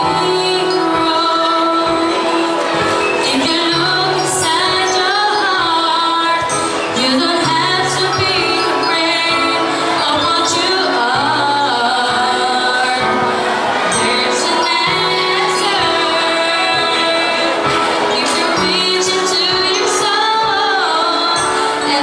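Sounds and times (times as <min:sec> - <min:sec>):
instrumental accompaniment: 0:00.0 - 0:22.0
woman singing into microphone: 0:00.0 - 0:22.0.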